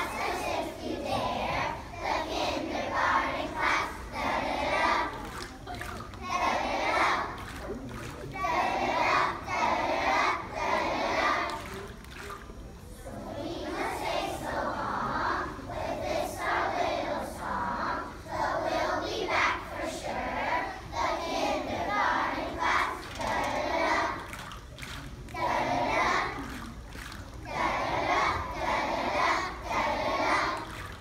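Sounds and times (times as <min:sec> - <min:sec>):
children singing in unison: 0:00.0 - 0:05.4, 0:06.2 - 0:07.4, 0:08.4 - 0:11.9, 0:13.0 - 0:24.5, 0:25.3 - 0:26.8, 0:27.4 - 0:31.0.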